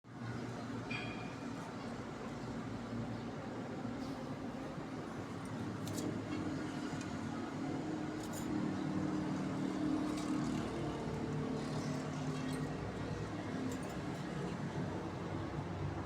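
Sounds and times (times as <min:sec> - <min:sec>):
low mechanical hum: 0:00.1 - 0:16.0.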